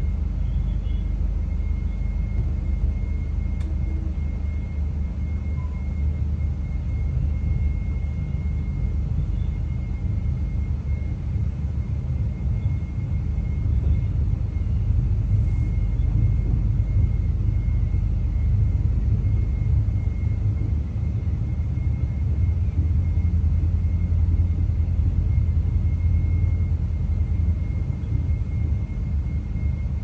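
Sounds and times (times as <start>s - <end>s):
faint high whine: 0.0s - 30.0s
train rumbling inside carriage: 0.0s - 30.0s.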